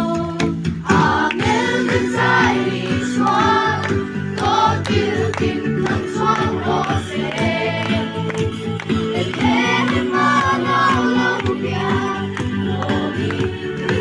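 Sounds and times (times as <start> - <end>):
group singing: 0.0 - 14.0
instrumental music with beat: 0.0 - 14.0.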